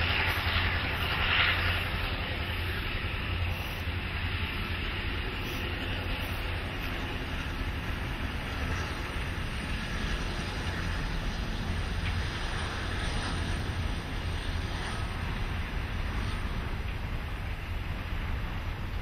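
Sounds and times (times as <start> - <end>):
train wheels rumbling on rail: 0.0 - 19.0
wind noise on microphone: 0.0 - 19.0.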